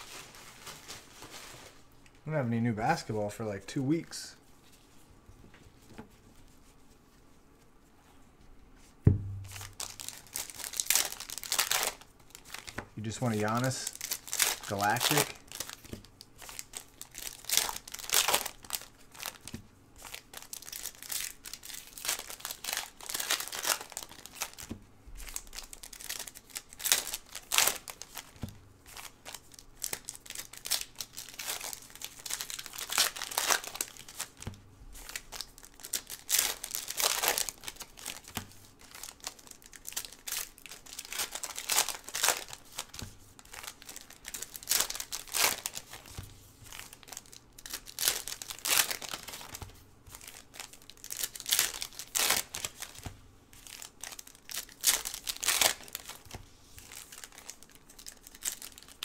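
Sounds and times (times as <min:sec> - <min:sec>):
foil packs tearing and crinkling: 0:09.5 - 0:34.4, 0:35.0 - 0:59.0.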